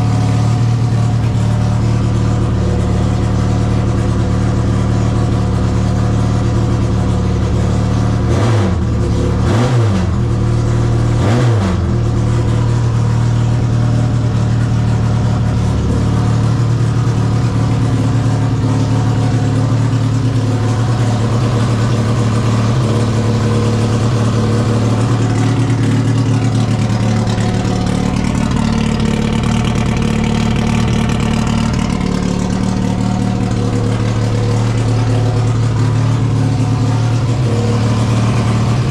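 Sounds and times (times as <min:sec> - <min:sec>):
car engine idling: 0:00.0 - 0:38.9
engine throttle blips: 0:00.0 - 0:38.9.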